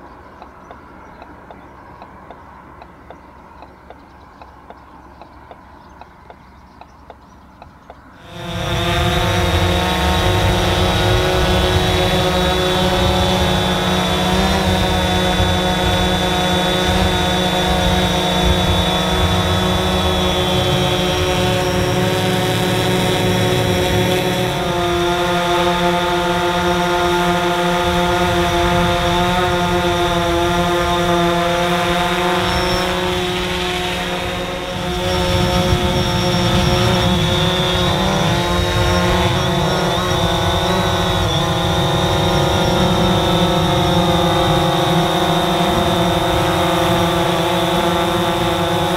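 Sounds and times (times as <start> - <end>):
drone propellers buzzing: 8.1 - 48.9.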